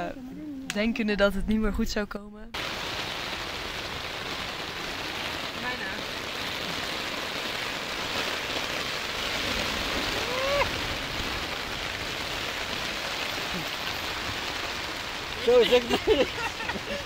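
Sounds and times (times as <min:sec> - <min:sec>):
rain falling on a tent: 0:02.5 - 0:17.0.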